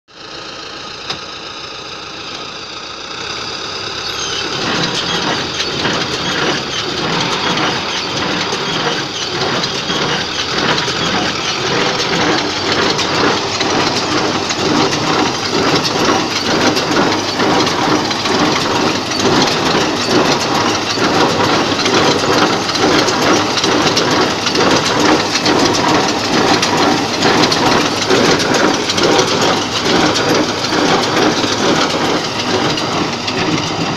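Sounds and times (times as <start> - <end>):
tractor engine: 0.1 - 33.9
machine hum: 3.2 - 33.9
hay baler clattering: 4.0 - 33.9.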